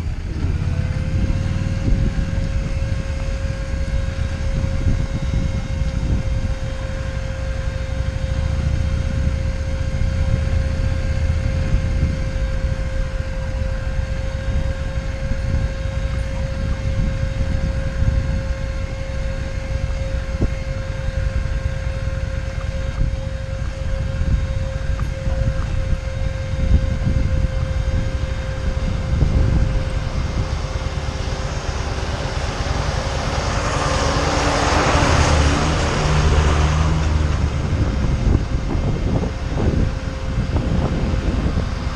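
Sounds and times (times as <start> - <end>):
broad rushing noise: 0.0 - 41.9
low rumble: 0.0 - 41.9
vehicle engine whining: 0.0 - 41.9.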